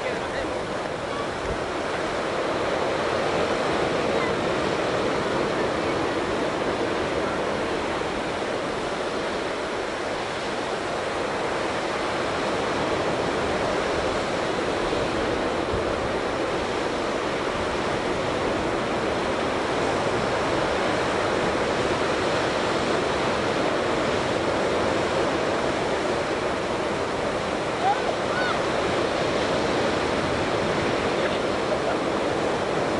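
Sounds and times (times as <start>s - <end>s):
surf breaking on beach: 0.0s - 32.9s
wind buffeting microphone: 0.0s - 32.9s.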